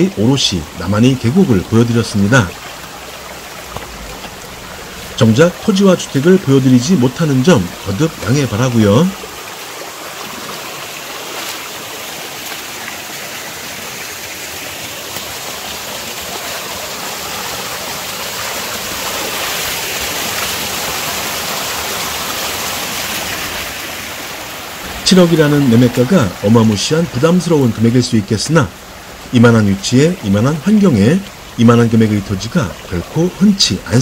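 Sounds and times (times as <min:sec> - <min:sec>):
stream splashing over boulders: 0:00.0 - 0:34.0.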